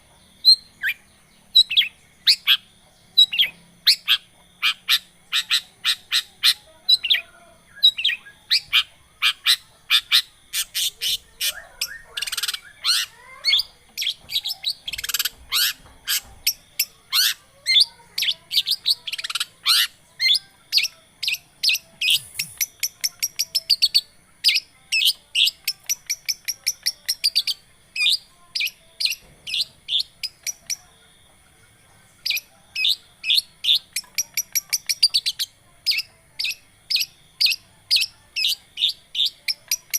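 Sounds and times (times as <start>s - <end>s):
bird singing high chirps: 0.2s - 30.9s, 32.2s - 39.9s.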